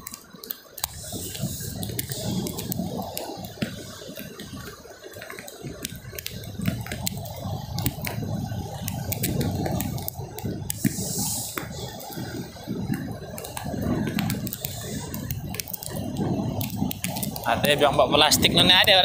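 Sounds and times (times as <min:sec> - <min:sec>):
surf washing on sandy beach: 0:00.0 - 0:19.0.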